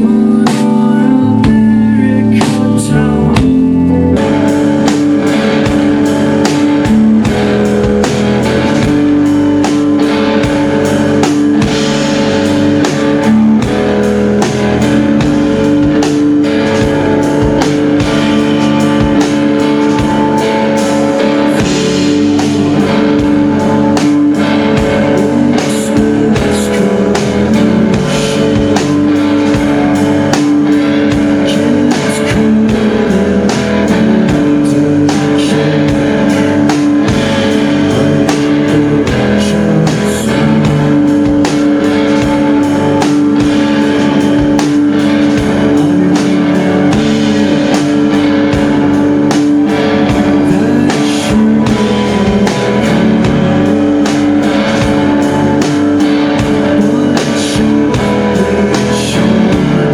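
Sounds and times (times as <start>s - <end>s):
drum kit steady beat: 0.0s - 59.9s
guitars sustaining chords: 0.0s - 59.9s.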